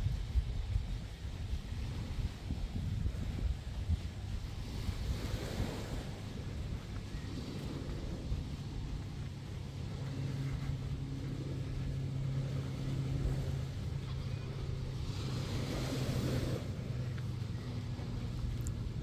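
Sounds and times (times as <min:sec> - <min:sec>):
motorboat engine humming: 0:00.0 - 0:19.0
water noise: 0:00.0 - 0:19.0
wind on microphone: 0:00.0 - 0:19.0.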